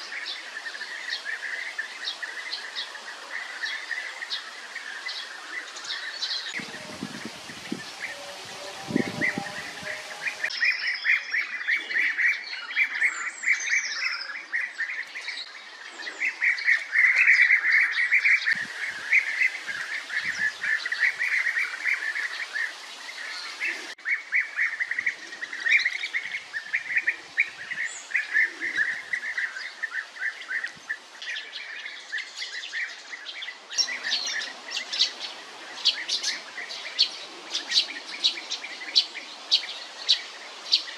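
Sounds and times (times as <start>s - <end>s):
birds calling: 0.0s - 40.9s.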